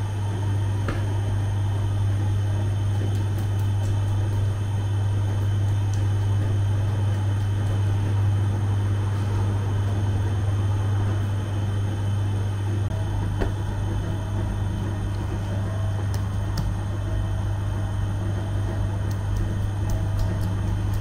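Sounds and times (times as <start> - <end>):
bread oven humming: 0.0 - 21.0.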